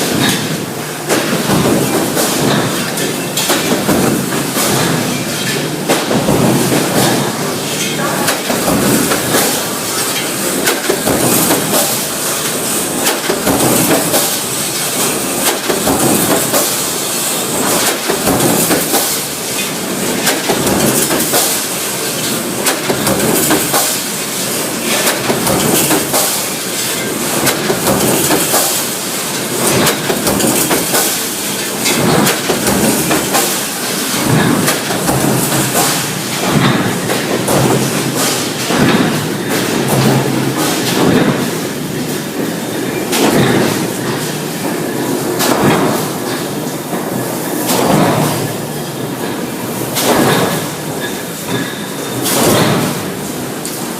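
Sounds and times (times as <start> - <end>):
factory machinery running: 0.0 - 53.9.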